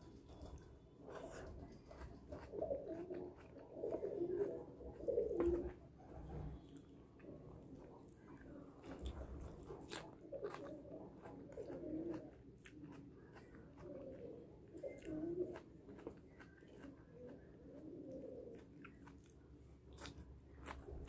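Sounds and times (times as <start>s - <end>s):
soft chewing: 0.0s - 21.0s.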